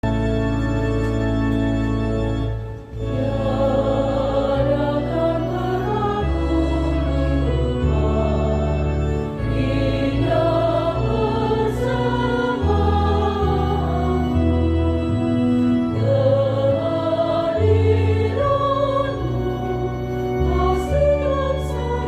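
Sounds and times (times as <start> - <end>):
church choir singing: 0.0 - 22.0
instrumental accompaniment: 0.0 - 22.0.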